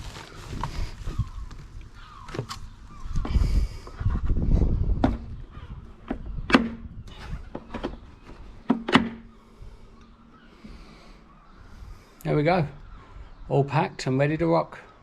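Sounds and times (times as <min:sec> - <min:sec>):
rustle and rumble of handling: 0:00.0 - 0:12.2.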